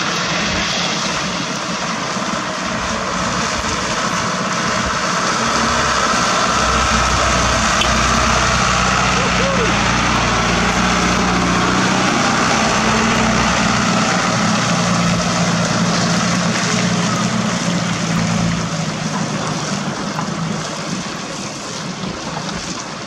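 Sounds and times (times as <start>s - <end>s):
constant rushing noise: 0.0s - 23.0s
truck diesel engine driving off: 0.0s - 23.0s.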